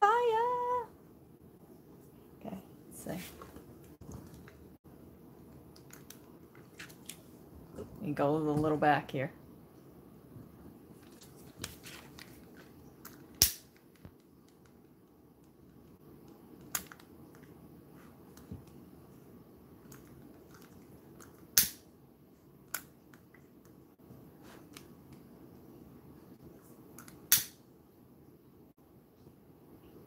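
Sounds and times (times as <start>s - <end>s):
faint room noise: 0.0s - 30.0s.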